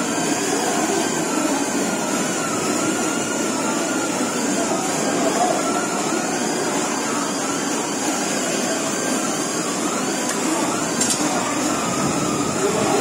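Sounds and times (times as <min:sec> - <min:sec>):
machinery noise with high whine: 0:00.0 - 0:13.0.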